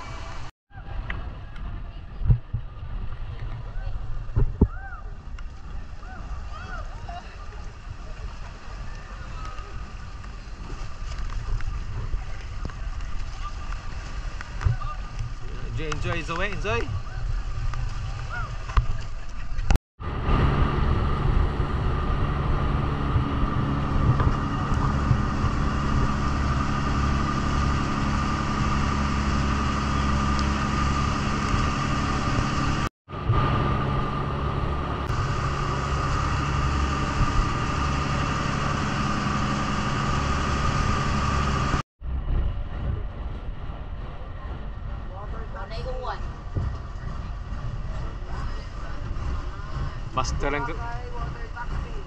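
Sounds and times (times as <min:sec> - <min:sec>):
motorboat engine running: 0:07.1 - 0:52.0.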